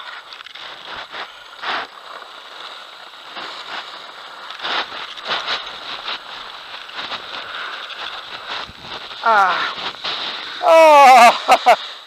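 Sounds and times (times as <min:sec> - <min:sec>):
skis sliding on hard snow: 0:00.0 - 0:12.0.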